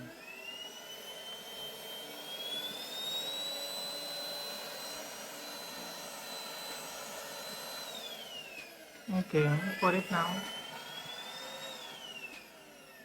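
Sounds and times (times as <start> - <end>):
vacuum motor whine: 0.0 - 13.0.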